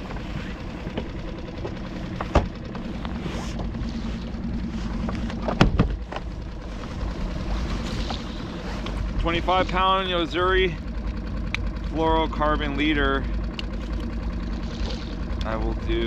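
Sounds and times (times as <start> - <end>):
outboard motor running: 0.0 - 16.0
water noise: 0.0 - 16.0
wind: 0.0 - 16.0.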